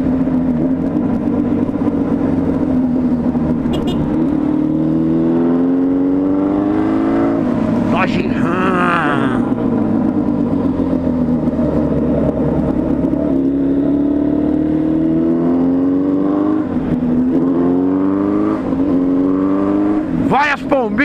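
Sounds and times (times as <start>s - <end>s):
motorcycle engine accelerating: 0.0s - 20.5s.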